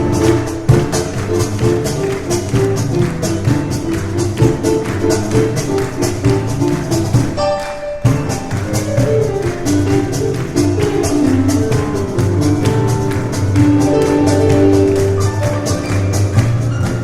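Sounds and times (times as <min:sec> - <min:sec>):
cajon slaps: 0:00.0 - 0:07.4, 0:08.0 - 0:17.0
piano chords and runs: 0:00.0 - 0:17.0.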